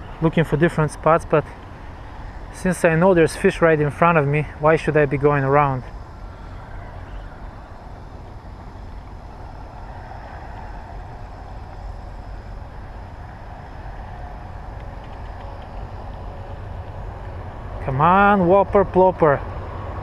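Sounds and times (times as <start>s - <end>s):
highway traffic rumble: 0.0s - 20.0s.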